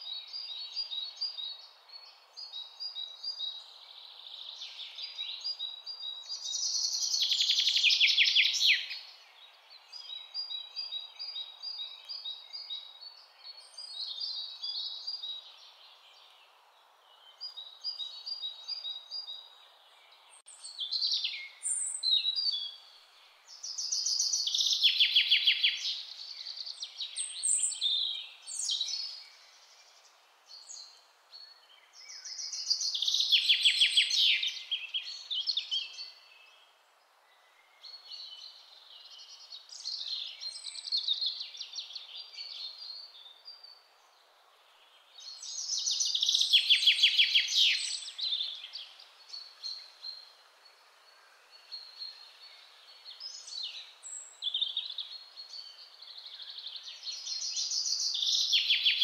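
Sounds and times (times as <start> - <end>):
faint steady hiss: 0.0 - 59.0
songbirds singing: 0.0 - 59.0.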